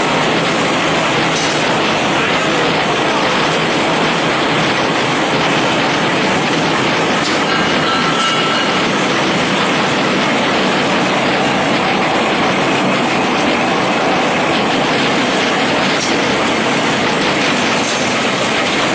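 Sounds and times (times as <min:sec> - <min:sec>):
printing rollers running: 0:00.0 - 0:18.9.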